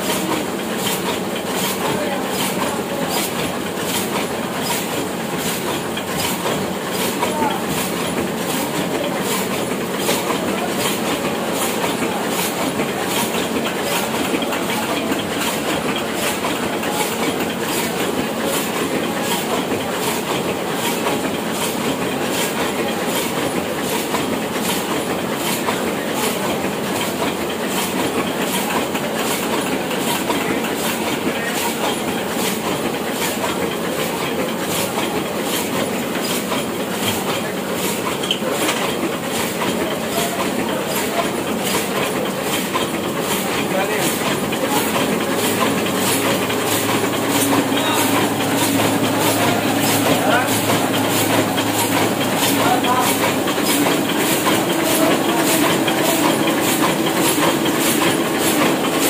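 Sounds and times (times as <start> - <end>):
printing press clattering: 0.0 - 59.0.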